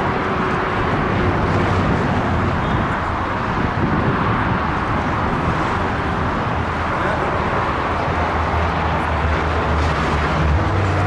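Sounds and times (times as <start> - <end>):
jet engines rumbling: 0.0 - 11.0
wind buffeting microphone: 0.0 - 11.0.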